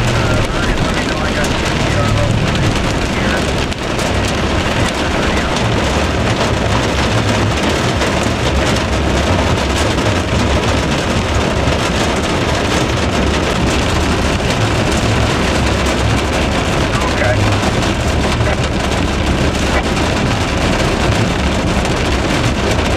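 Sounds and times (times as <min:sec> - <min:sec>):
heavy rain pounding on truck: 0:00.0 - 0:22.9
truck rumble: 0:00.0 - 0:22.9.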